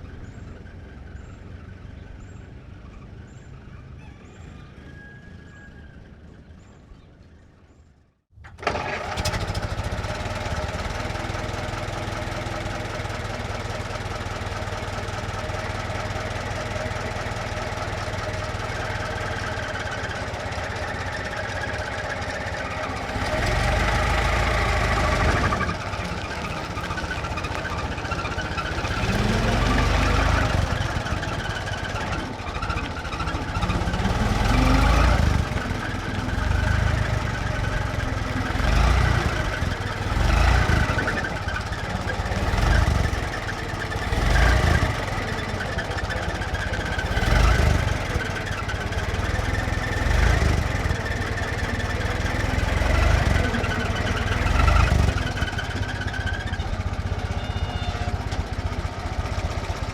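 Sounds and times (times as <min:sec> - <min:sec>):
old truck engine idling and revving: 0:00.0 - 0:06.8, 0:08.4 - 0:59.9.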